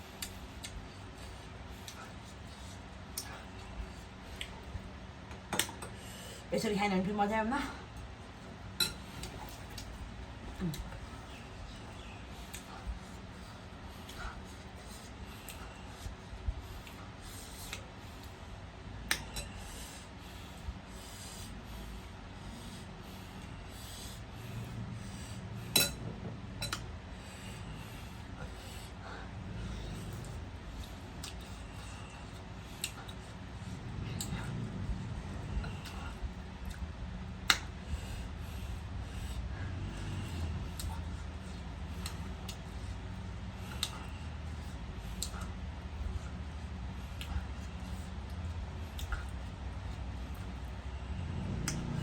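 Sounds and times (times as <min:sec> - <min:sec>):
person chewing food: 0:00.0 - 0:05.9, 0:08.0 - 0:20.6, 0:21.9 - 0:50.9
low steady hum: 0:00.0 - 0:52.0.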